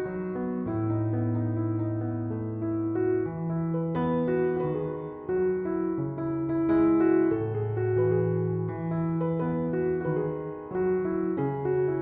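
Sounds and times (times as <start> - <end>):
slow keyboard melody: 0.0 - 12.0.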